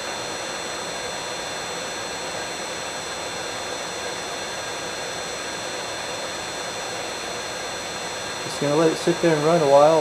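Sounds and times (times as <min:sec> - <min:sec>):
electric motor running with whine: 0:00.0 - 0:10.0.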